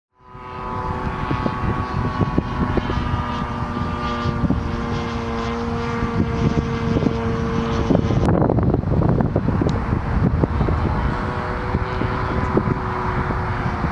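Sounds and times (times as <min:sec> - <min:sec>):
model airplane motor droning: 0:00.2 - 0:13.9.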